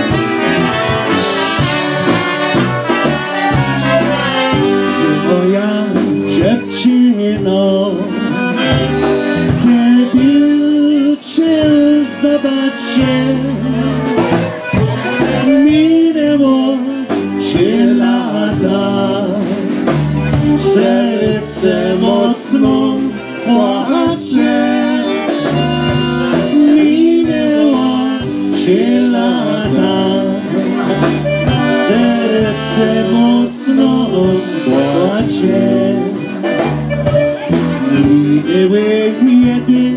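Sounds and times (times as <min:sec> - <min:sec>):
polka band playing: 0:00.0 - 0:39.9.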